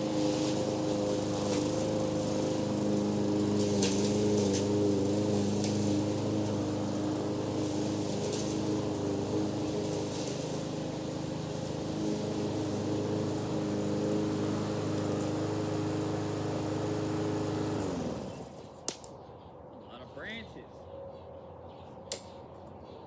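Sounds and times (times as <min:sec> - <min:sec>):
lawn mower engine running: 0:00.0 - 0:18.8.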